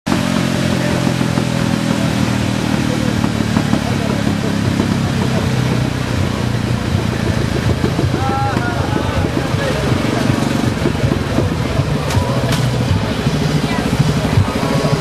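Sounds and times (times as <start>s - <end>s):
motorcycle engine running: 0.0s - 15.0s
crowd voices: 0.1s - 15.0s.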